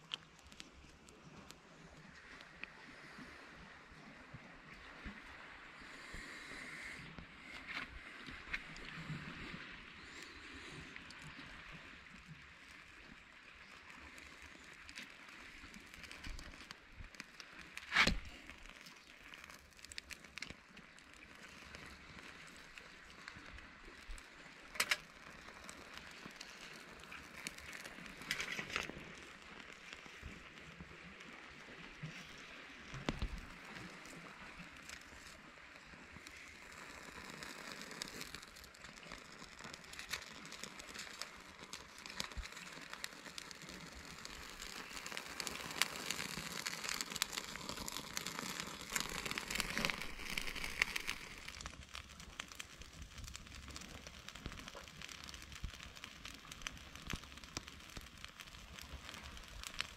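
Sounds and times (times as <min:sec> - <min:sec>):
bark burning with faint crackle: 0:00.0 - 0:05.2, 0:05.8 - 0:59.9.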